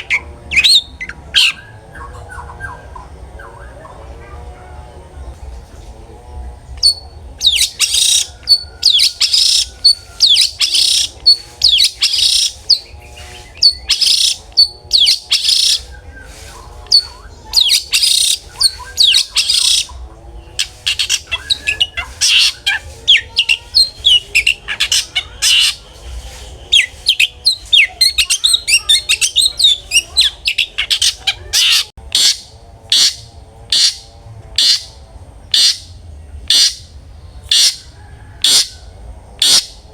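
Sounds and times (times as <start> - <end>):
bird harsh chattering song: 0.0 - 4.4, 6.6 - 39.9.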